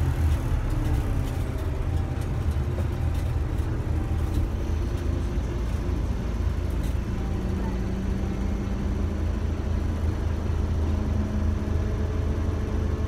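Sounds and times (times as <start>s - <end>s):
bus engine rumble from inside: 0.0s - 13.0s.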